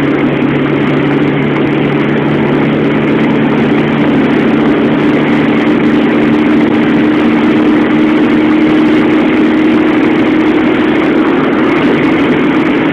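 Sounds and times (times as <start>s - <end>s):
car engine running: 0.0s - 12.9s
wind and road noise: 0.0s - 12.9s.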